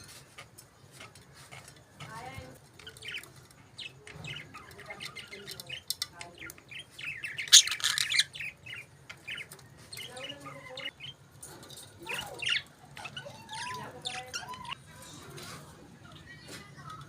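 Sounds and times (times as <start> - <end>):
budgerigars chirping and chattering: 0.0 - 16.6.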